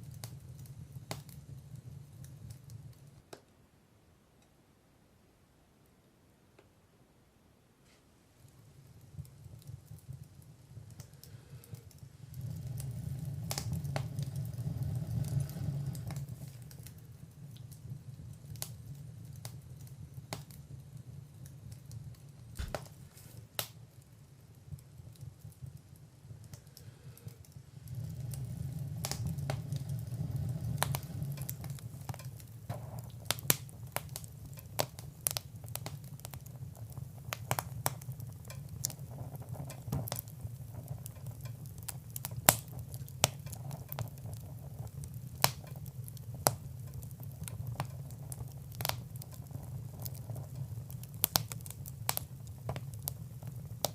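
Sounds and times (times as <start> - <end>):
low rumble of flame: 0.0 - 3.4, 8.2 - 53.9
fire crackling and popping: 0.0 - 3.5, 8.1 - 53.9.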